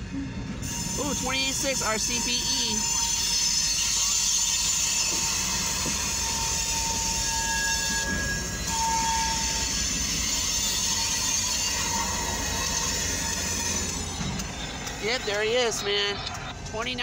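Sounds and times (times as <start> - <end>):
diesel locomotives rumbling: 0.0 - 17.0
thin high squeal: 0.6 - 14.8.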